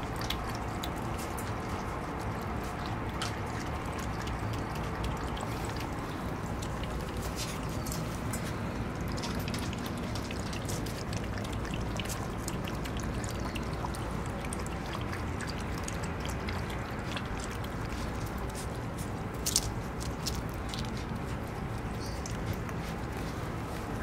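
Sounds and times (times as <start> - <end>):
puppies licking metal bowl: 0.0 - 24.0.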